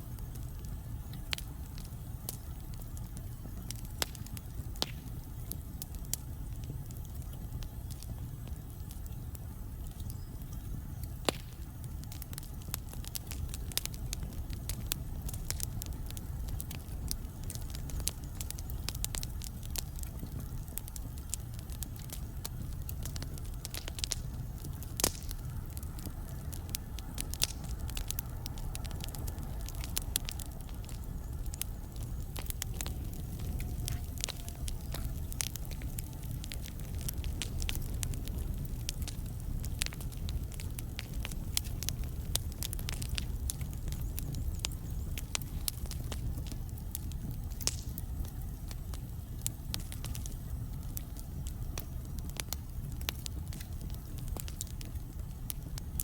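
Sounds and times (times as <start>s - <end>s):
fire flames rumbling: 0.0s - 56.0s
logs crackling and popping: 0.0s - 56.0s.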